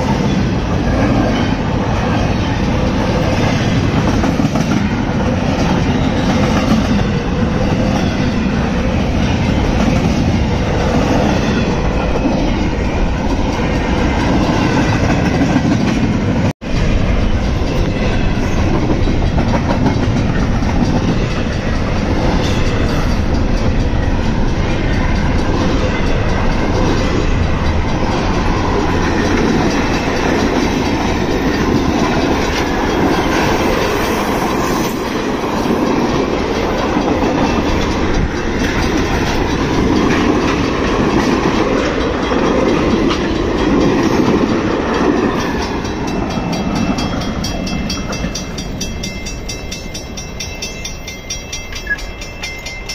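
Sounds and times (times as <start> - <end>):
train rolling past: 0.0 - 52.9
wheels clickety-clack on rail: 0.0 - 52.9.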